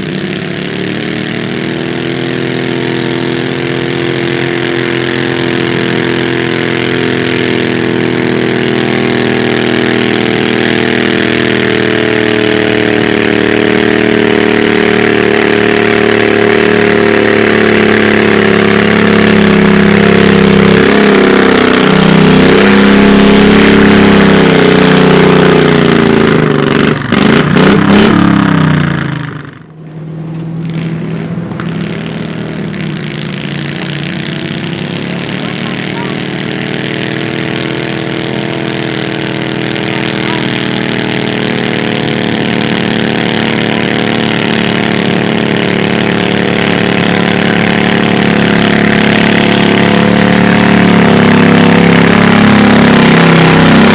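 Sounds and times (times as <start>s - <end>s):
tractor engine running under load: 0.0s - 53.9s.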